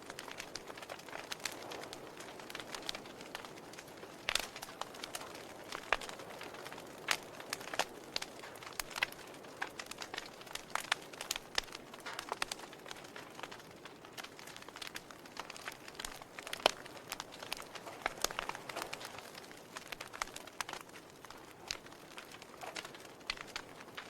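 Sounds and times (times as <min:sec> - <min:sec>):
soft steady hiss: 0:00.0 - 0:24.0
wood fire crackling: 0:00.0 - 0:24.0.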